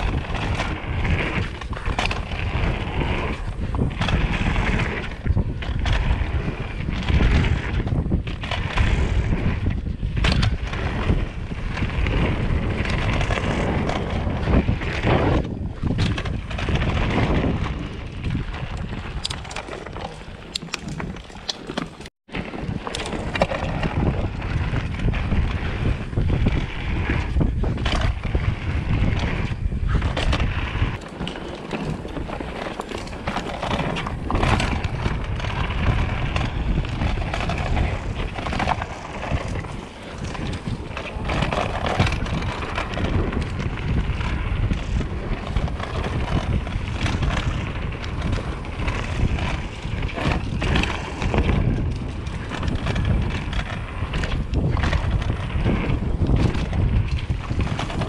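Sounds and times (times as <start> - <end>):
bike rattling over bumps: 0.0 - 58.0
tyres rolling on dirt: 0.0 - 58.0
wind on microphone: 0.0 - 58.0.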